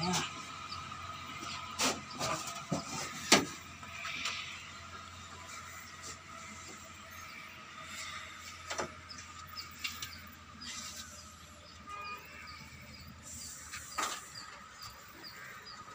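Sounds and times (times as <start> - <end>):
faint outdoor background: 0.0 - 15.9.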